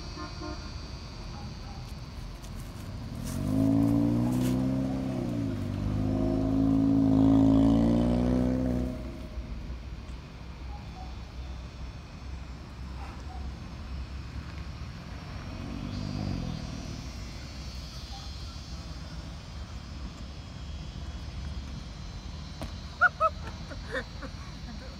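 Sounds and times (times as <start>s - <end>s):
car engine running on dirt: 1.4s - 10.4s, 12.1s - 24.9s.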